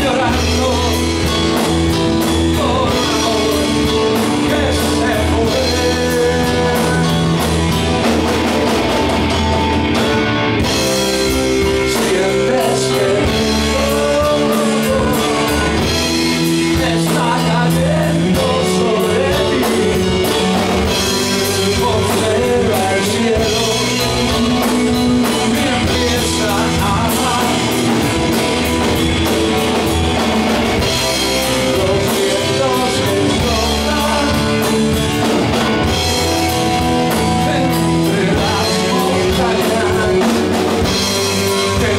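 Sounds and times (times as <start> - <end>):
man singing lead vocal: 0.0 - 8.7, 10.8 - 29.9, 30.5 - 41.9
rock band playing loudly: 0.0 - 41.9.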